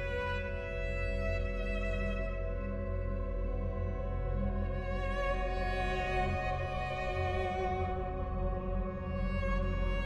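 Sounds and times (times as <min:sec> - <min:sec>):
slow bowed string music: 0:00.0 - 0:10.0.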